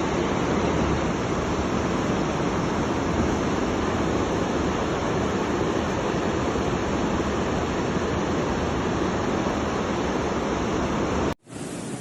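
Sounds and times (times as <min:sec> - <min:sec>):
heavy water rushing: 0:00.0 - 0:12.0.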